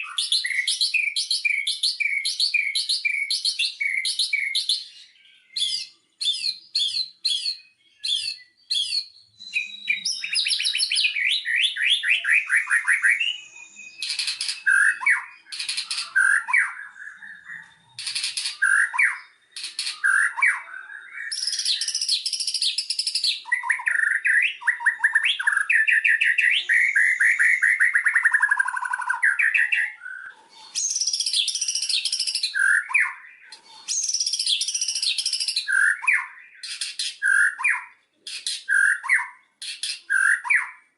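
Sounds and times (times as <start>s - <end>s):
bird singing varied song: 0.0s - 40.9s.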